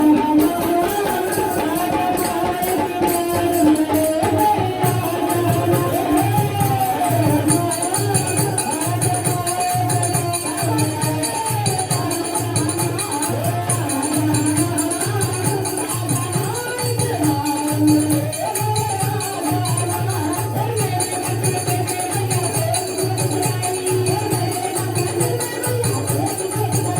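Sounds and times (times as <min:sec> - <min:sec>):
devotional singing: 0:00.0 - 0:26.9
jingling tambourine: 0:00.0 - 0:26.9.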